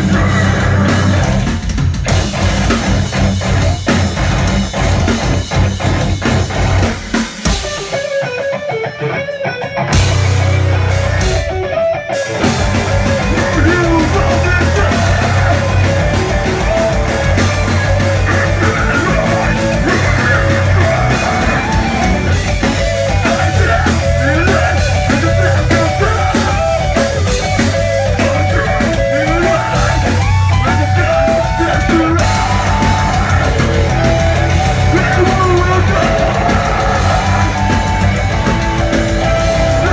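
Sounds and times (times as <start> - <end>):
heavy rock band playing: 0.0 - 39.9.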